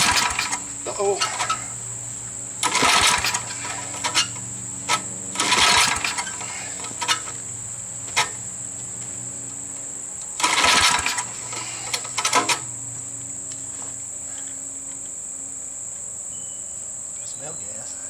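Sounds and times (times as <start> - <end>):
mower engine cranking: 0.0 - 14.5
crickets chirping: 0.0 - 18.0.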